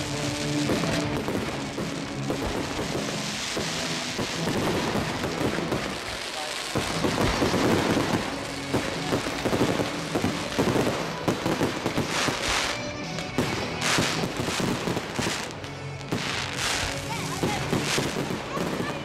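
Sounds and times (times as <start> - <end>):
music playing: 0.0 - 19.0.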